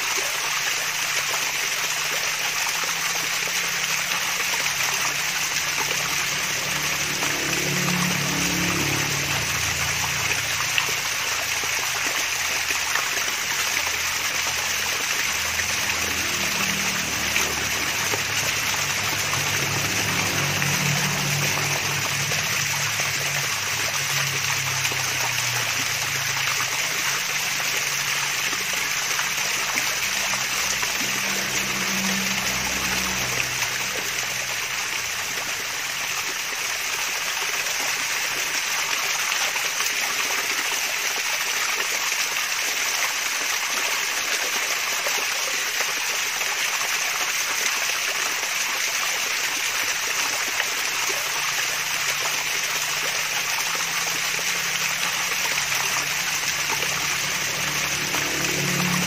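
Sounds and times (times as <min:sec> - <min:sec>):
water trickling down waterfall: 0:00.0 - 0:59.0.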